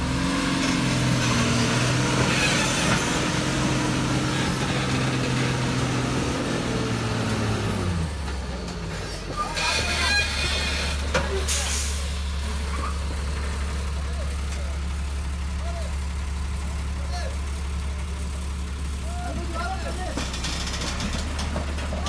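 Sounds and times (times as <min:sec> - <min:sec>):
truck diesel engine pulling: 0:00.0 - 0:22.0.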